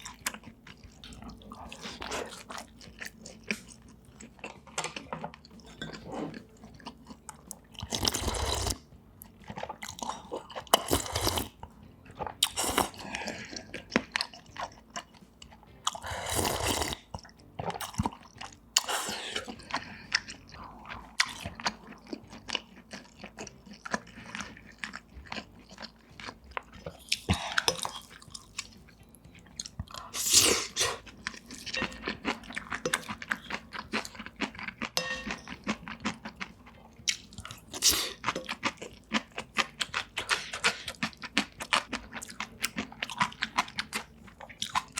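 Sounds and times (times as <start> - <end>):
slurping: 0.0 - 28.8, 29.4 - 44.9
chewing and biting: 0.0 - 44.9.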